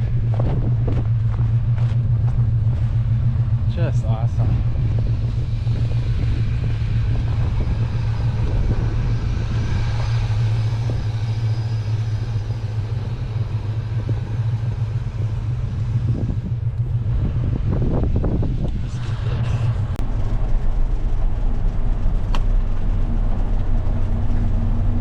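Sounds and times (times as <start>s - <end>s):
truck engine droning and rumbling: 0.0s - 25.0s.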